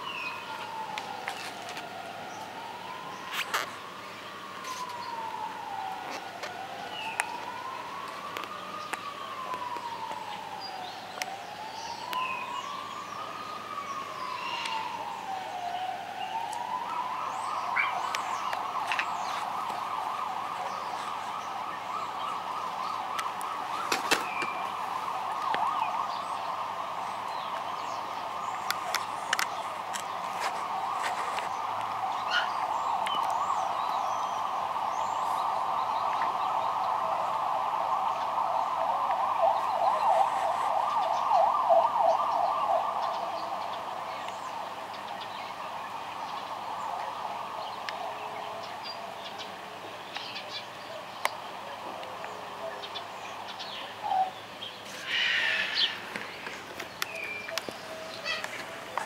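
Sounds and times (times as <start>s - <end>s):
emergency vehicle siren: 0.0s - 59.0s.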